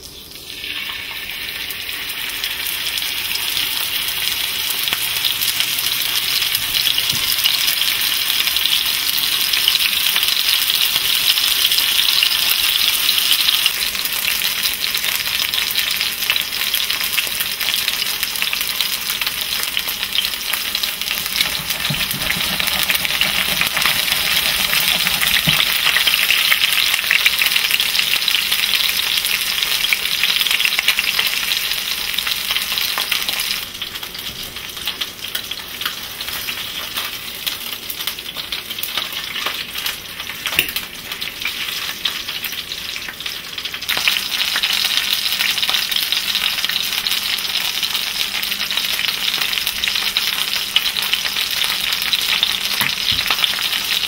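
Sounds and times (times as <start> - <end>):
meat sizzling in hot oil: 0.0 - 54.0.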